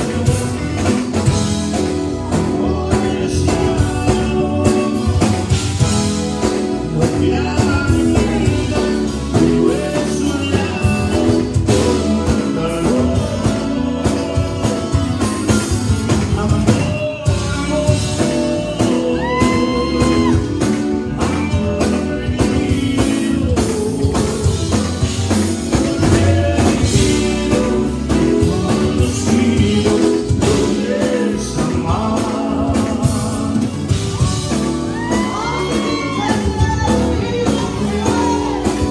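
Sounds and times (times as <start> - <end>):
bass: 0.0 - 38.9
drums: 0.0 - 38.9
electric guitars: 0.0 - 38.9
man and woman singing: 0.0 - 38.9.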